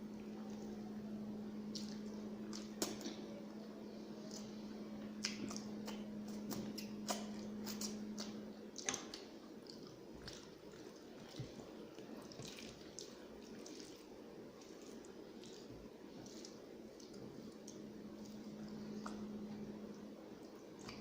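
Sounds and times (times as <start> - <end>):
faint low hum: 0.0 - 21.0
wet chewing and smacking: 1.6 - 3.3, 4.2 - 21.0.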